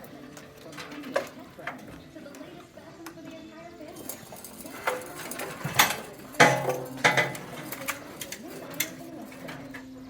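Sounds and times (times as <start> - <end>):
metal tools clanking: 0.0 - 3.2, 3.8 - 10.0.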